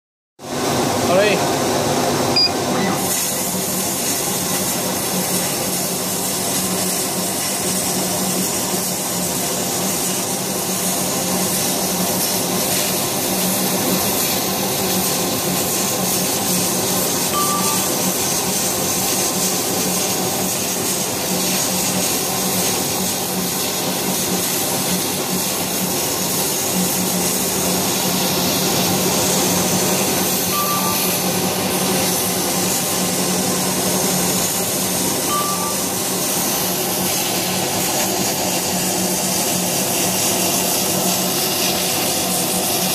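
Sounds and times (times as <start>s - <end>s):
laser cutter hissing hum: 0.5s - 42.9s.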